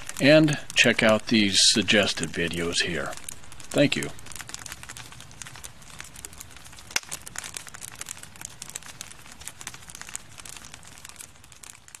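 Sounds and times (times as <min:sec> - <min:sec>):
log fire crackling and popping: 0:00.0 - 0:12.0.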